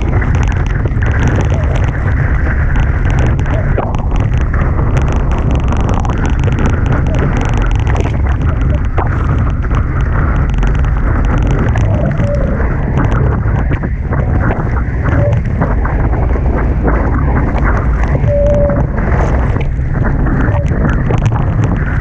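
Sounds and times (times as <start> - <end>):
rushing water: 0.0 - 22.0
wind buffeting microphone: 0.0 - 22.0.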